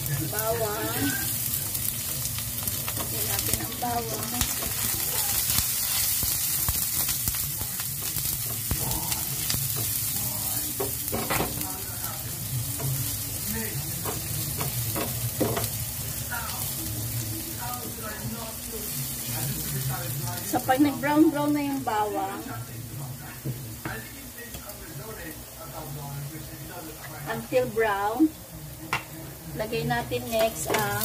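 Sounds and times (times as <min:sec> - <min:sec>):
garlic sizzling in oil: 0:00.0 - 0:31.0.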